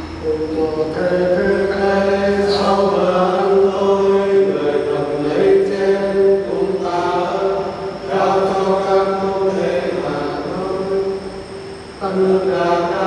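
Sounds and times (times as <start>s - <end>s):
man chanting: 0.2s - 11.2s.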